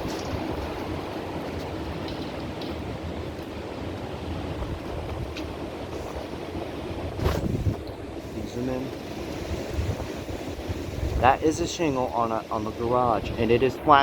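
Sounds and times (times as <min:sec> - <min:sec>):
strong gusty wind buffeting microphone: 0:00.0 - 0:14.0.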